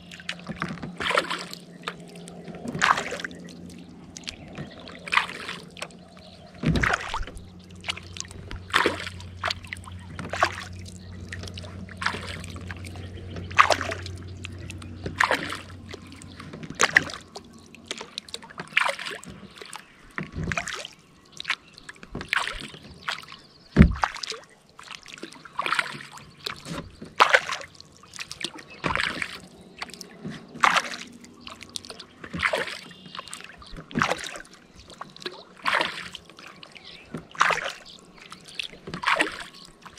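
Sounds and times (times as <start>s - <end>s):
kayak paddle strokes in water: 0.0s - 39.9s
water dripping from paddle: 0.0s - 39.9s.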